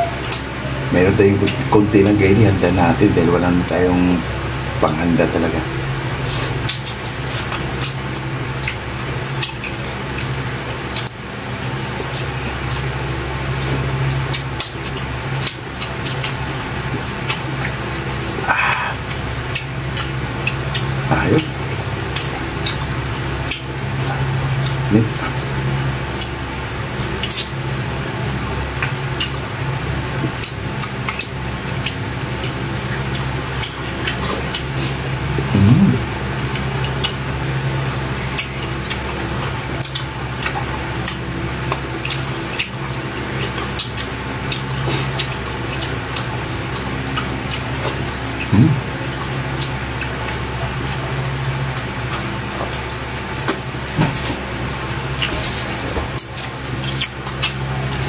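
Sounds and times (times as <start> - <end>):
wet chewing and lip-smacking: 0.0 - 0.6, 5.2 - 58.0
steady low hum: 0.0 - 58.0.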